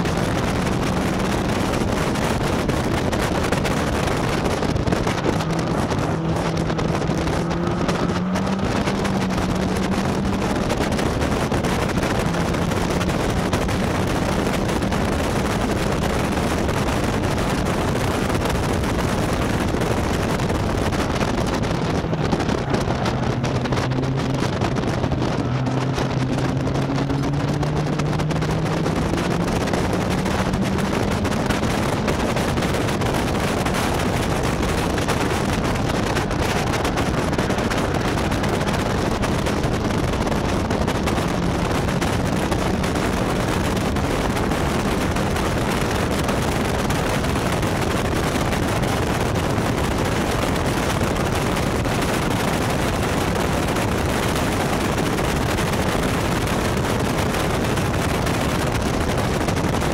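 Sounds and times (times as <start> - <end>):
faint race car engine: 0.0 - 59.9
wind buffeting microphone: 0.0 - 59.9.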